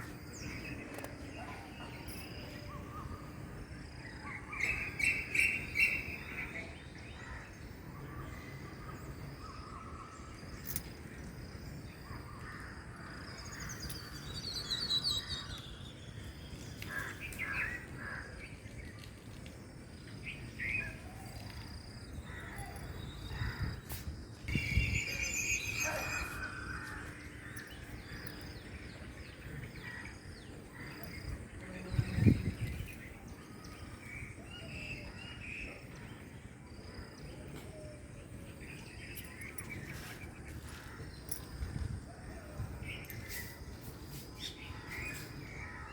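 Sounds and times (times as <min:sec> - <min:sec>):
wild birds chirping: 0:00.0 - 0:45.9.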